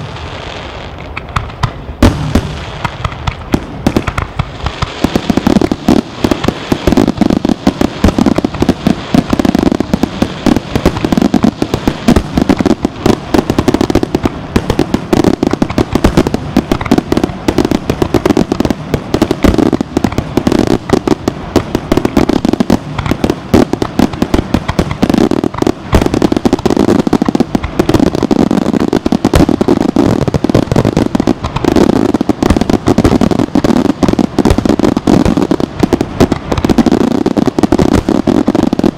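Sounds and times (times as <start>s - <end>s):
fireworks bursts and crackle: 0.0s - 38.9s.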